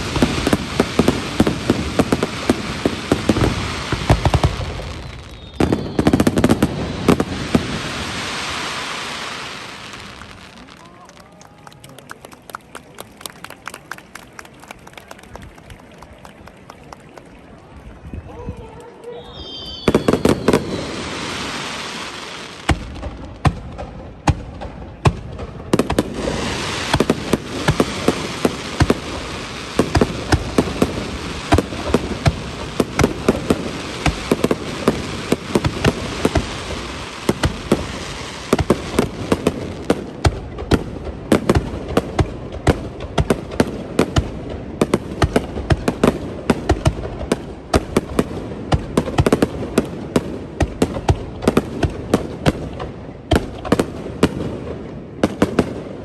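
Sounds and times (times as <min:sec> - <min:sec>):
firework bangs: 0:00.0 - 0:12.8, 0:19.1 - 0:56.0
firework crackling: 0:00.0 - 0:17.9, 0:18.8 - 0:56.0.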